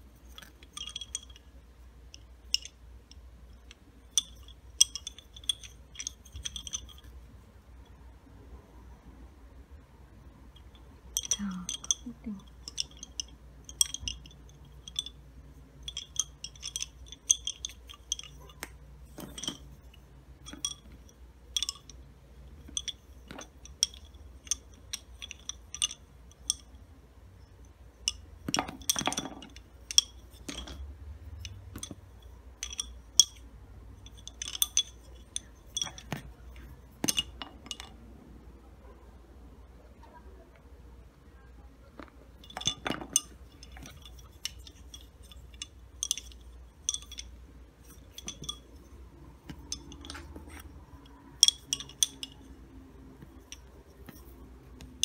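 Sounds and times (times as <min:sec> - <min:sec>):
wooden bobbins clicking: 0:00.0 - 0:07.2, 0:10.5 - 0:38.0, 0:41.8 - 0:55.0.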